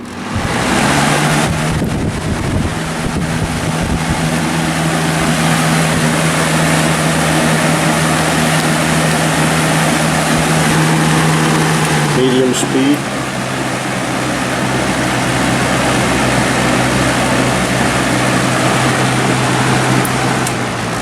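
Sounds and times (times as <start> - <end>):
fan air rushing: 0.0 - 21.0
fan motor hum: 0.0 - 21.0.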